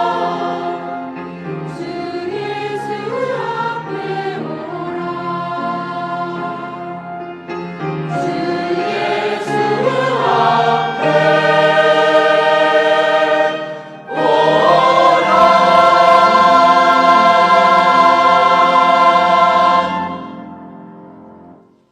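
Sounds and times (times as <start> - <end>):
choir singing a hymn: 0.0 - 7.2, 7.8 - 21.6.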